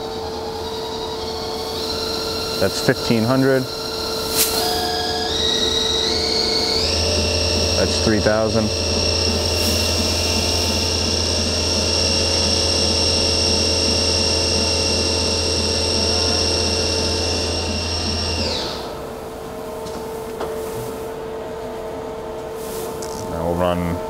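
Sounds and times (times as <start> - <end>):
low machine hum: 0.0 - 24.0
machine drive high whine: 0.0 - 24.0.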